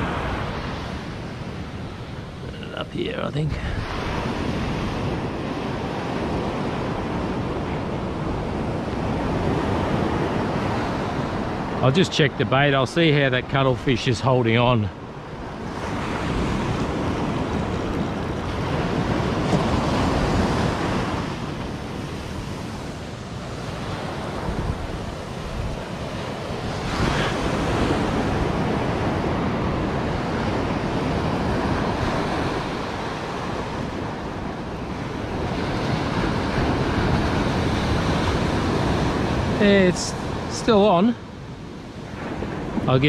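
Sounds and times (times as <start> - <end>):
ocean surf breaking on beach: 0.0 - 43.0
wind buffeting microphone: 0.0 - 43.0.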